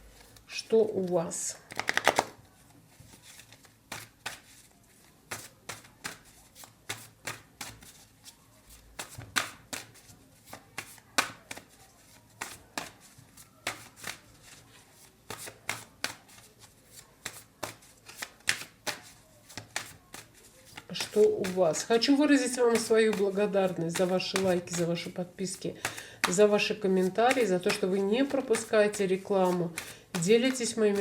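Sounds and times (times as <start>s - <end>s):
cards shuffled by hand: 1.6s - 31.0s.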